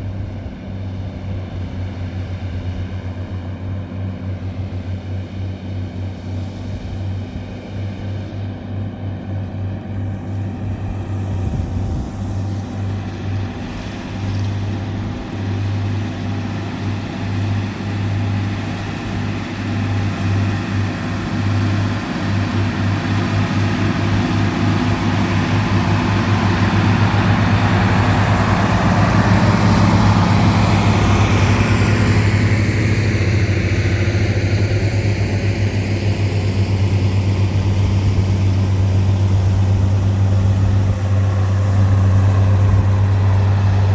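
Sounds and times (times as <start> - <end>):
tractor diesel engine running: 4.1 - 43.9.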